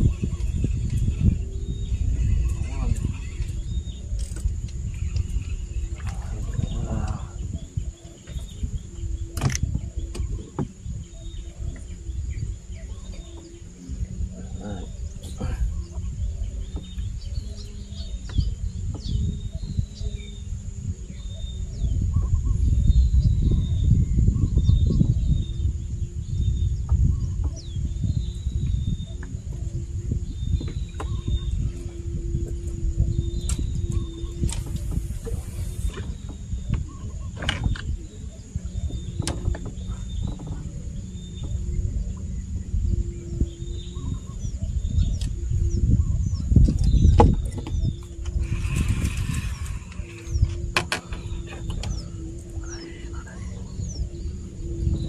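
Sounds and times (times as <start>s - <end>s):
birds chirping and whistling: 0.0s - 55.0s
high insect drone: 0.0s - 55.0s
low rumbling noise: 0.0s - 55.0s
steady high-pitched hum: 0.0s - 55.0s.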